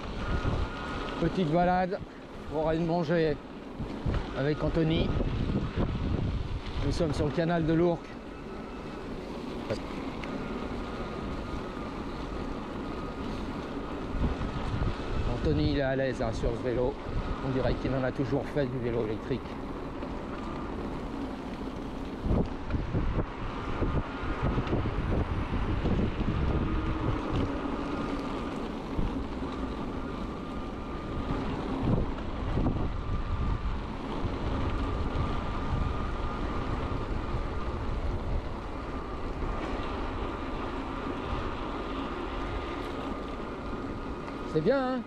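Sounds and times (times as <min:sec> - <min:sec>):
faint steady whine: 0:00.0 - 0:45.0
wind buffeting microphone: 0:00.0 - 0:45.0.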